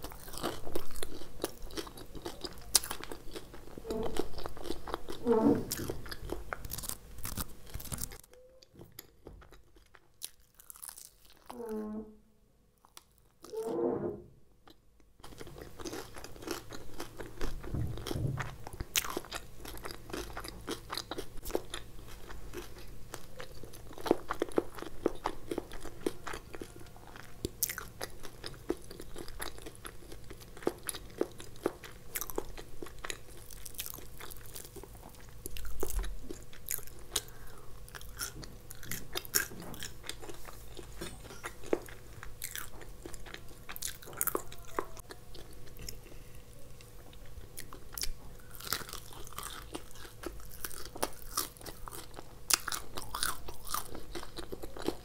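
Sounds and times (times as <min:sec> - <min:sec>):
crunchy chewing: 0:00.0 - 0:11.6, 0:15.2 - 0:55.0.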